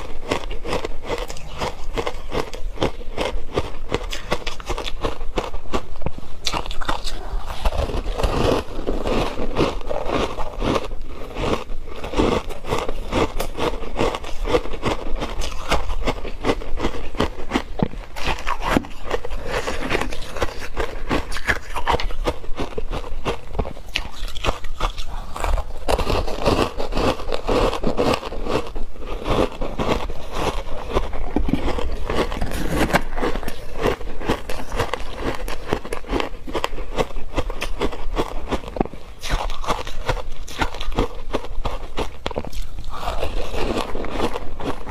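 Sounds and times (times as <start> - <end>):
person crunching ice: 0.0 - 44.9.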